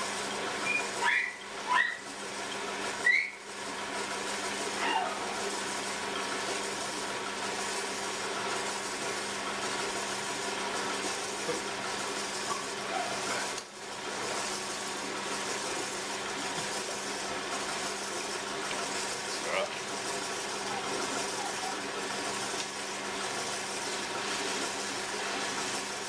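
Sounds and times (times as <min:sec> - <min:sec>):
potter's wheel humming: 0:00.0 - 0:26.0.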